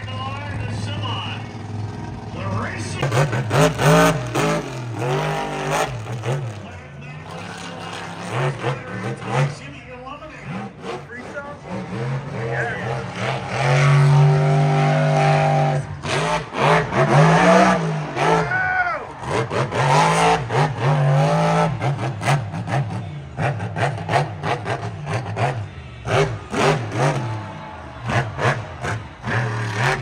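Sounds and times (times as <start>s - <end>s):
truck engine revving hard: 0.0s - 30.0s.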